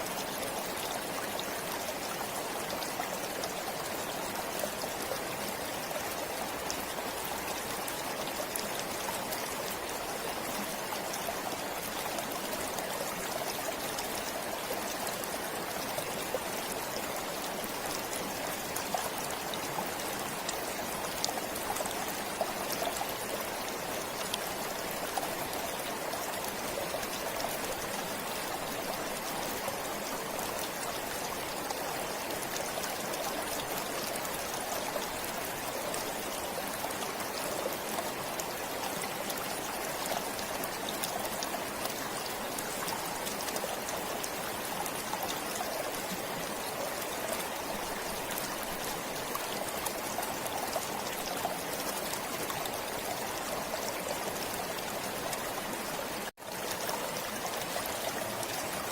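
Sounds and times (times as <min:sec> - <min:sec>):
stream of trickling water: 0:00.0 - 0:58.9.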